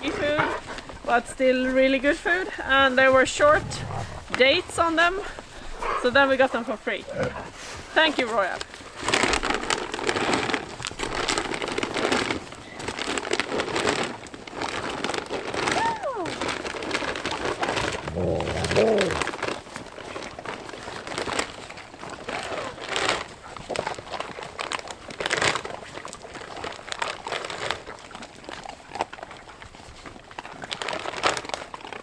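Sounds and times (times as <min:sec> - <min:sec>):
paws crunching in snow: 0:00.0 - 0:32.0.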